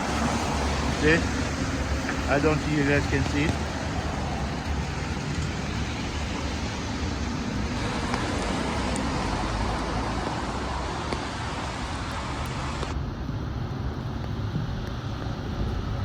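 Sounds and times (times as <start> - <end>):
city traffic rumble and hiss: 0.0 - 16.0.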